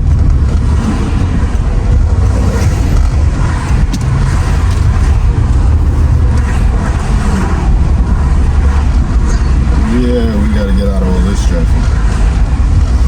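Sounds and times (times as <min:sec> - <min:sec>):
car engine drone: 0:00.0 - 0:13.0
road rumble: 0:00.0 - 0:13.0
wind through open car windows: 0:00.0 - 0:13.0.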